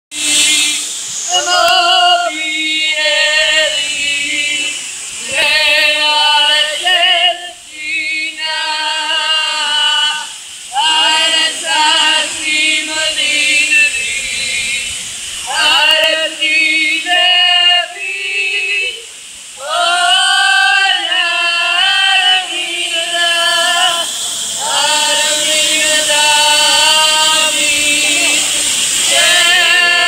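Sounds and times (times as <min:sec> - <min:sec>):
group singing in harmony: 0:00.1 - 0:30.0.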